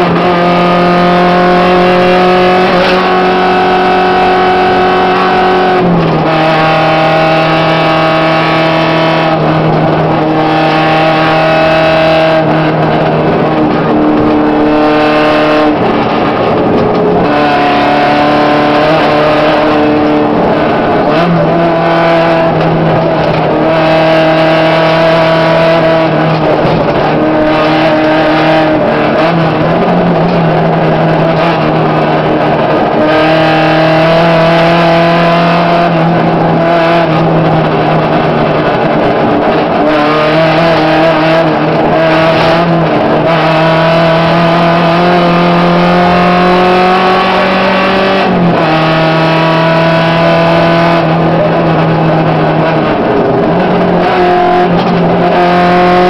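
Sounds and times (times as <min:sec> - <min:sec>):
rally car engine running hard: 0:00.0 - 0:56.0
road noise rushing: 0:00.0 - 0:56.0.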